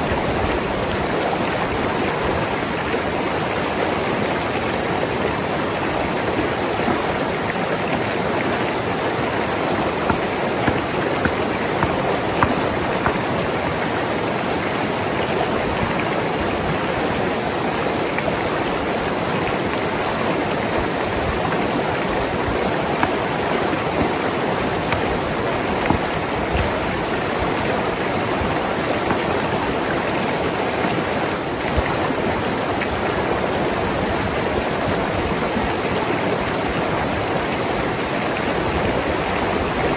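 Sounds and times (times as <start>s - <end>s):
river flowing over rocks: 0.0s - 39.9s
water splashes: 0.0s - 39.9s.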